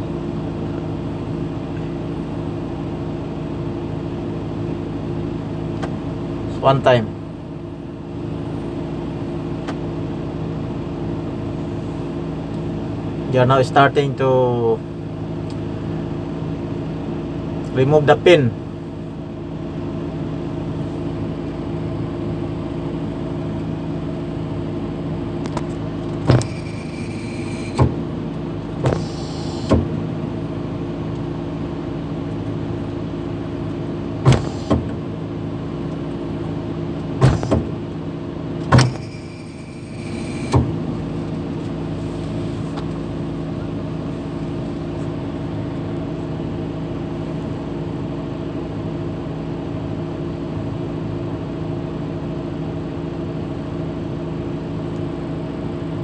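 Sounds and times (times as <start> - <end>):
crane engine running: 0.0 - 13.4, 14.8 - 17.8, 18.5 - 56.0.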